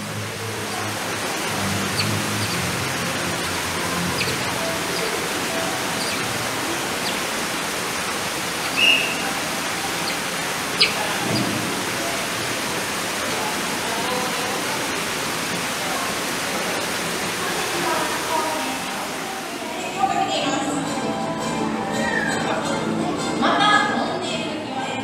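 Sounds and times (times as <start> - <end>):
running water rushing: 0.0 - 22.6.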